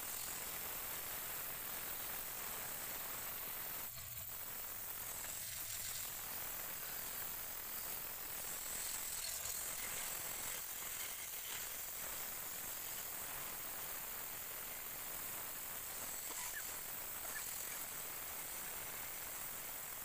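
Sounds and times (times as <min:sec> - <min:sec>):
sandpaper hissing on spinning wood: 0:00.0 - 0:20.0.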